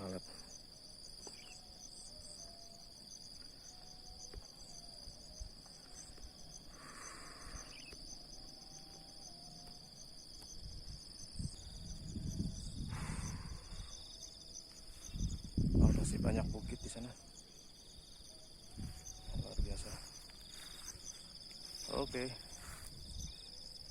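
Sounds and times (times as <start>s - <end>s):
fast pulsing insect trill: 0.0s - 23.9s
insect buzzing: 0.0s - 23.9s.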